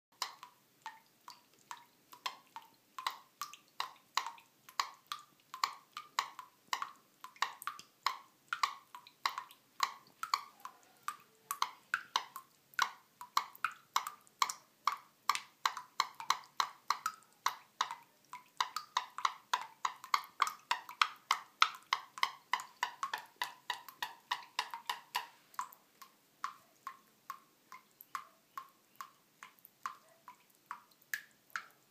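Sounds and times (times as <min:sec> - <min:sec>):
water dripping from faucet: 0:00.1 - 0:31.9.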